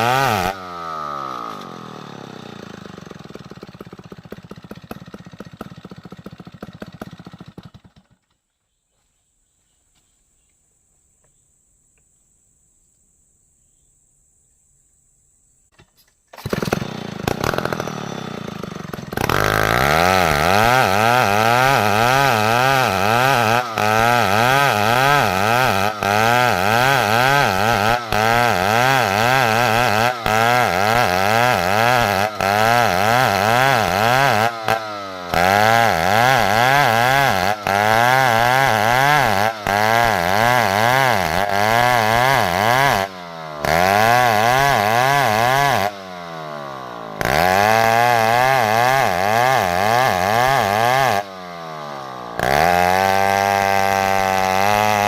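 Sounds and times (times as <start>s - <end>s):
chainsaw cutting under load: 0.0s - 8.3s, 15.8s - 55.0s.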